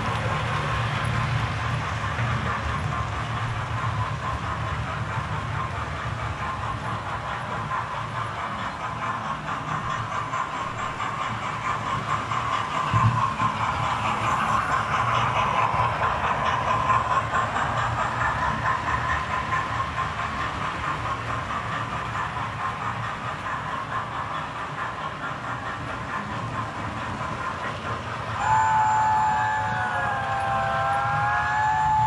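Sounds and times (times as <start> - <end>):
wheels rattling on rails: 0.0 - 32.0.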